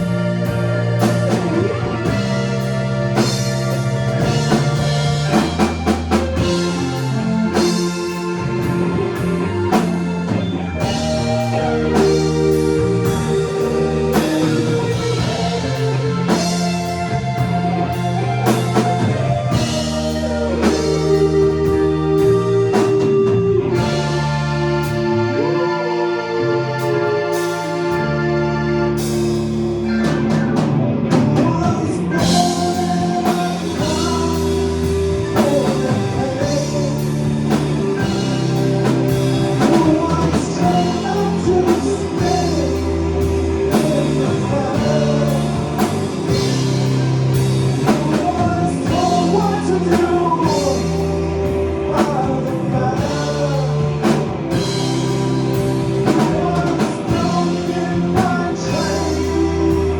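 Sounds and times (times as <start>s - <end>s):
live rock band: 0.0s - 59.9s
person singing: 0.0s - 59.9s.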